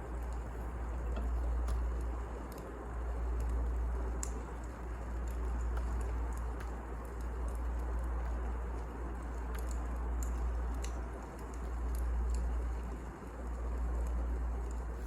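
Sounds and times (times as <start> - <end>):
fire low rumble: 0.0 - 15.0
firewood crackling and popping: 0.0 - 15.0.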